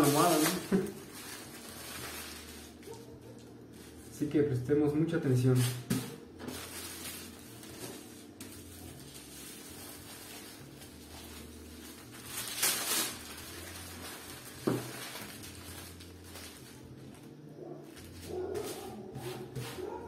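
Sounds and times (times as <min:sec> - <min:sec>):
tissue paper rustling: 0:00.0 - 0:03.1, 0:05.6 - 0:17.2, 0:17.9 - 0:20.0.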